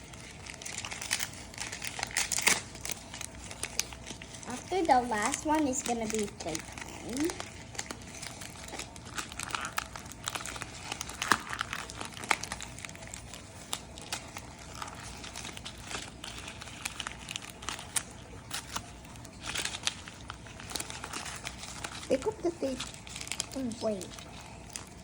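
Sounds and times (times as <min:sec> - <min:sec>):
packaging crinkling and rustling: 0:00.0 - 0:25.0.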